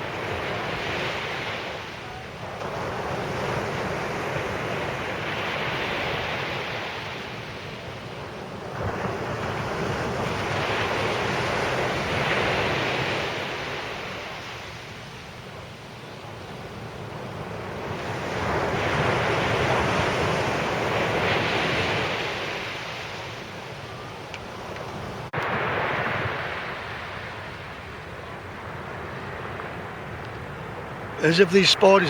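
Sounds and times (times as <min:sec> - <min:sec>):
waves breaking on sand: 0:00.0 - 0:32.0.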